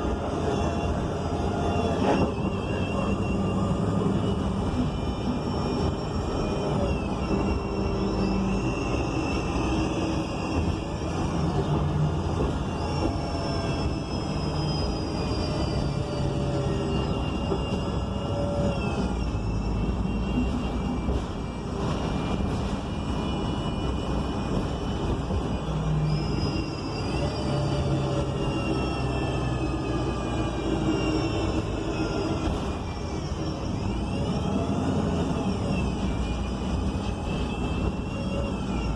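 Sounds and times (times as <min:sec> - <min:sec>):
bus engine rumble: 0:00.0 - 0:38.9
drivetrain whine: 0:00.0 - 0:38.9
road noise: 0:00.0 - 0:38.9.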